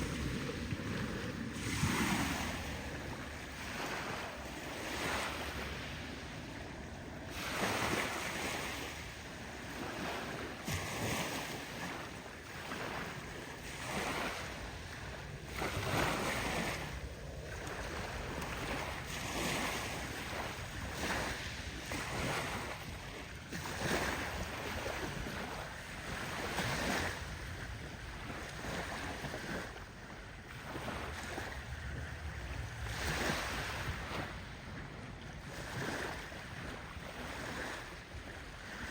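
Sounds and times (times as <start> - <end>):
waves washing onto shore: 0.0 - 38.9
wind buffeting microphone: 0.0 - 38.9.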